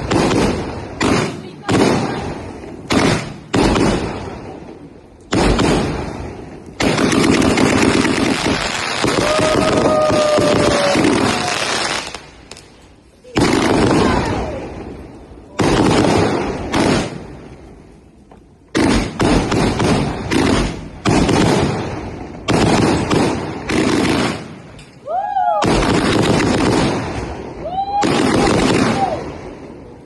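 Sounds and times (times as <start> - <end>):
fireworks booming: 0.0 - 30.0.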